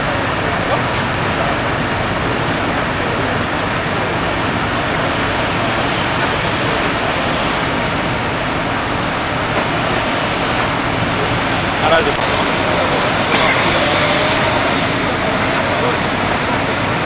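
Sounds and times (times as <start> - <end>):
fire engine pumps rumbling: 0.0 - 17.0.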